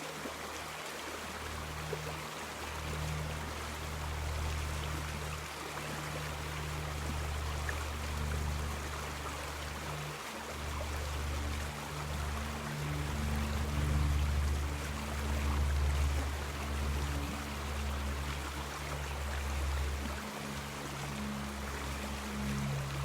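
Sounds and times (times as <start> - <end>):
river water flowing: 0.0 - 23.0
low droning hum: 0.1 - 23.0.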